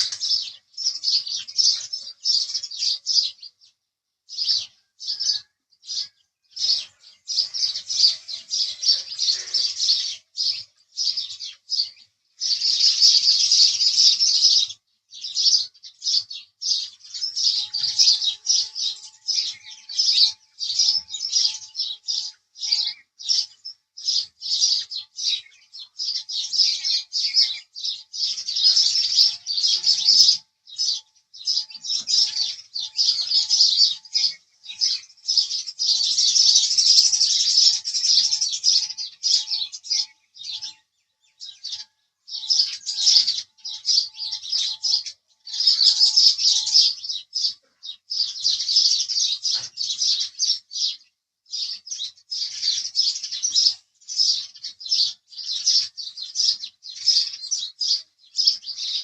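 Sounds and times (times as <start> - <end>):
sparrow chirping: 0.0 - 59.0.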